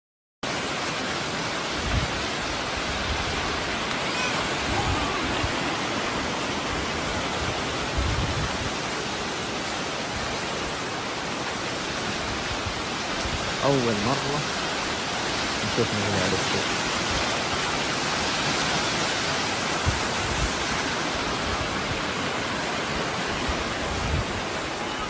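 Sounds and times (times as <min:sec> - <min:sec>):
rushing water: 0:00.4 - 0:25.0.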